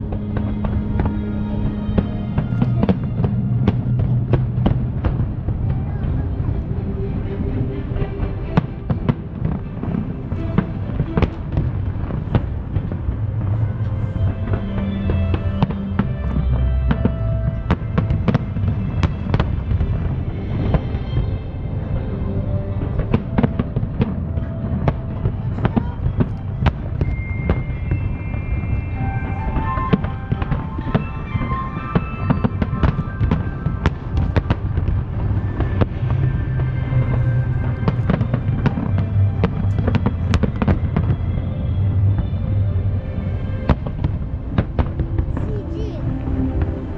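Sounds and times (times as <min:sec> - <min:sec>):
fireworks banging: 0:00.0 - 0:46.9
low rumble: 0:00.0 - 0:46.9
music playing: 0:00.0 - 0:46.9.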